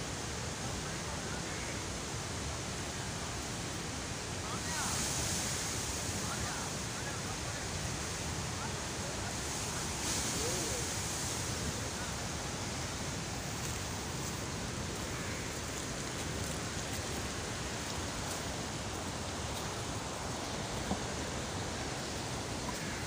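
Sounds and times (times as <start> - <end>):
floodwater rushing: 0.1 - 23.0.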